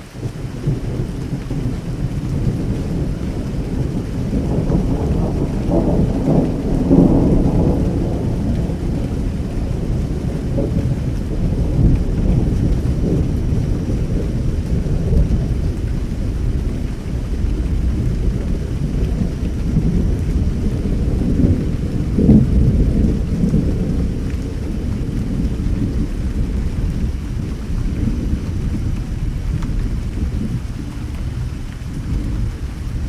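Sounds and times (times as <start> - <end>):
steady rain: 0.0 - 33.0
thunder rumbling: 0.1 - 33.0.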